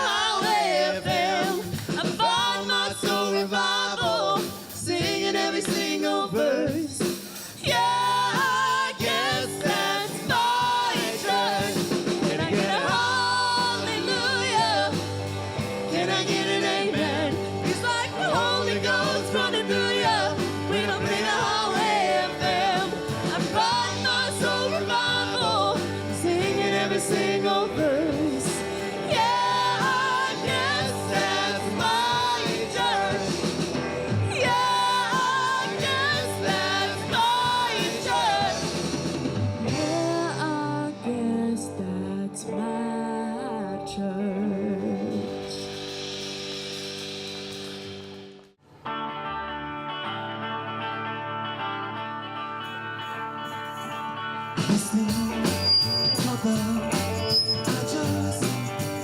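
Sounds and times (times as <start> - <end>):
live band with singer: 0.0 - 59.0.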